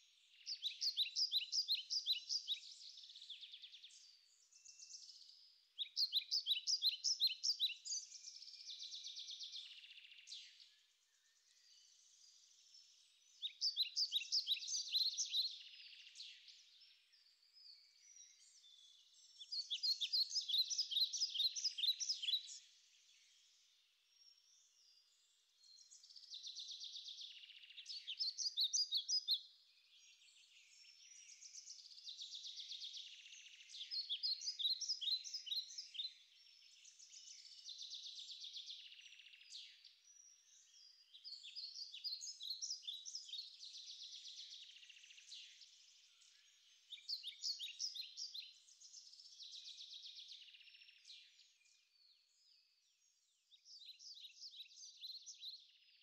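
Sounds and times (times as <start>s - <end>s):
small songbird singing: 0.0s - 56.0s.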